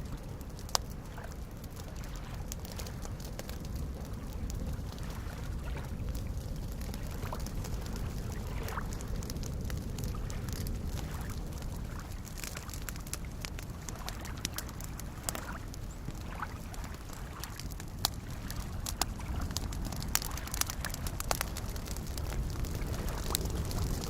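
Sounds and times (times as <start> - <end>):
campfire crackling and popping: 0.0 - 24.0
lake waves lapping: 0.2 - 24.0.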